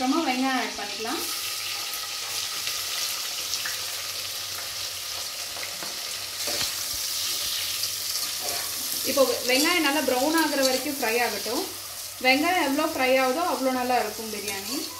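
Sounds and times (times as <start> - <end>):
onions sizzling in oil: 0.0 - 14.9.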